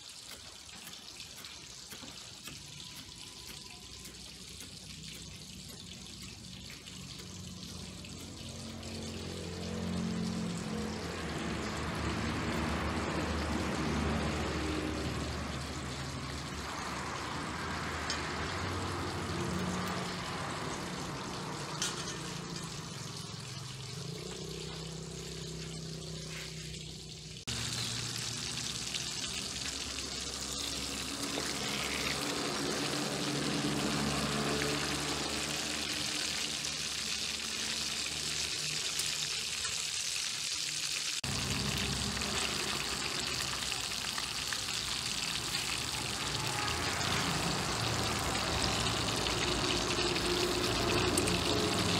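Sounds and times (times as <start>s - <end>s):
chicken deep-frying in hot oil: 0.0s - 51.9s.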